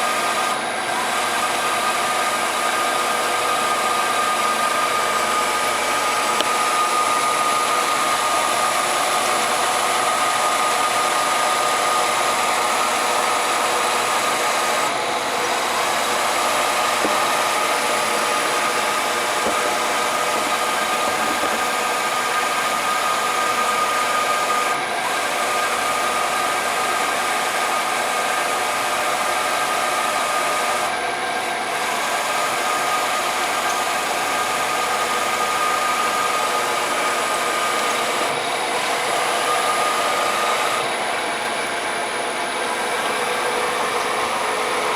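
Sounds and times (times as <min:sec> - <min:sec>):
mill spindle whirring: 0:00.0 - 0:44.9.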